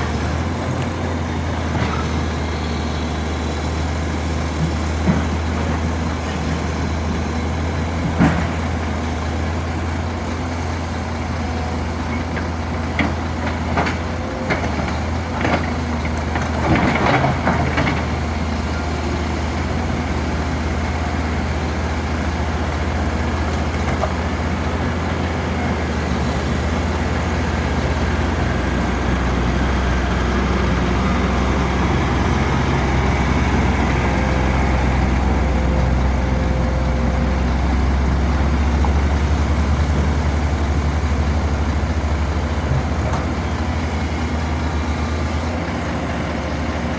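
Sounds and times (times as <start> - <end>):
heavy machine engine droning: 0.0 - 46.9.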